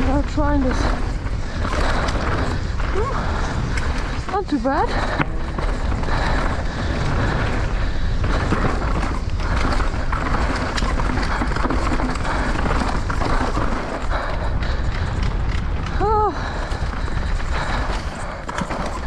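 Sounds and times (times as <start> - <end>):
bike clicks and rattles: 0.0 - 19.0
tyres on loose dirt: 0.0 - 19.0
wind buffeting microphone: 0.0 - 19.0.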